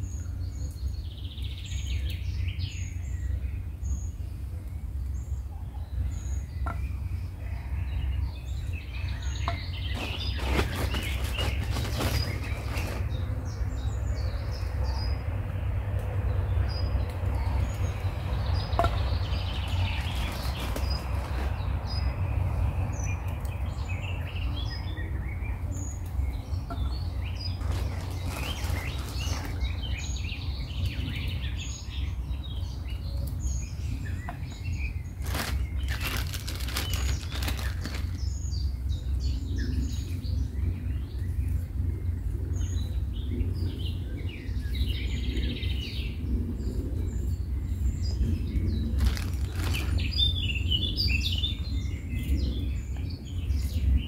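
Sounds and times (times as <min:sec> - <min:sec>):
birds chirping and singing: 0:00.0 - 0:15.3, 0:16.3 - 0:54.0.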